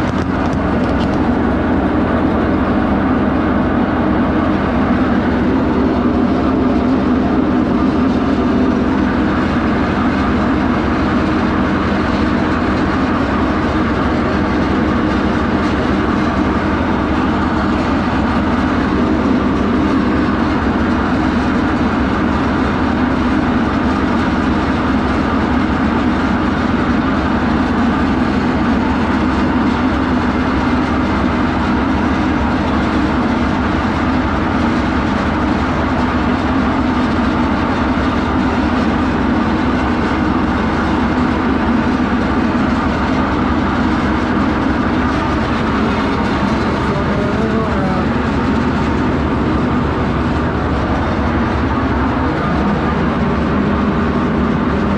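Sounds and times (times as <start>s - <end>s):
diesel sawmill engine running: 0.0s - 54.9s.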